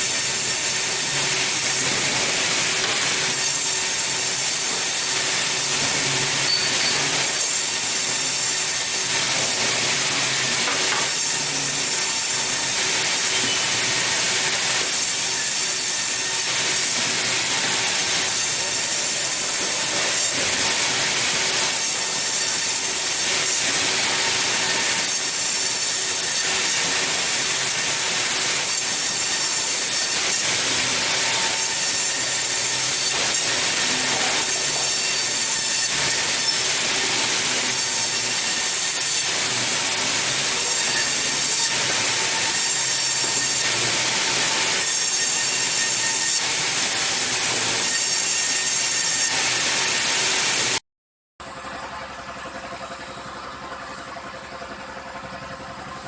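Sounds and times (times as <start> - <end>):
saw cutting through wood: 0.0 - 50.8.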